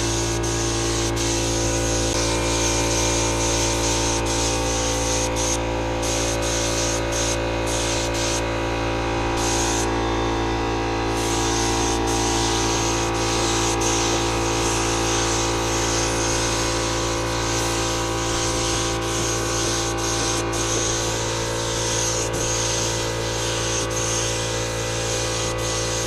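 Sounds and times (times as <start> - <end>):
spray gun hissing: 0.0 - 8.5, 9.4 - 10.0, 11.1 - 26.0
steady machine hum: 0.0 - 26.0.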